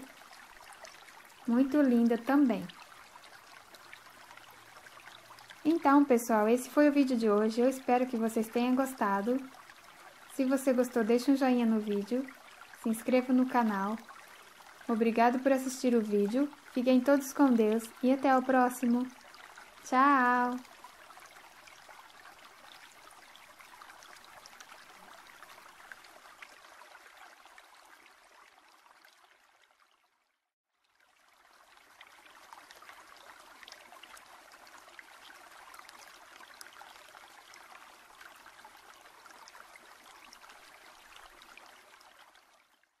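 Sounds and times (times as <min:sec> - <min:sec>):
running water: 0:00.0 - 0:30.2, 0:30.8 - 0:43.0.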